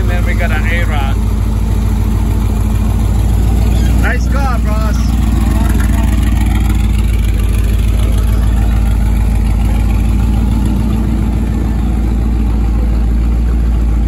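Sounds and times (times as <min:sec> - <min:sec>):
hot rod engine exhaust: 0:00.0 - 0:14.0.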